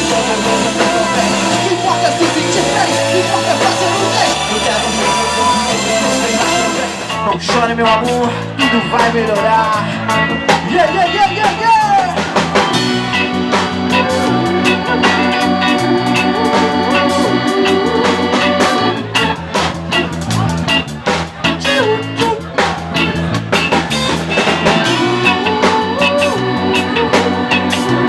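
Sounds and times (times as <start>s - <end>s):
reggae band playing: 0.0s - 28.0s.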